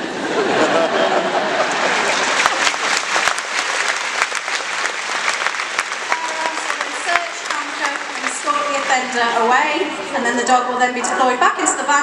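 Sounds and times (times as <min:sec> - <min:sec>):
crowd applauding: 0:00.4 - 0:10.2.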